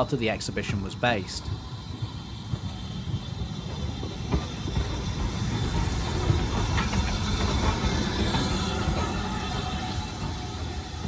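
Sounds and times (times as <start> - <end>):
steam train rumbling: 0.0 - 11.0.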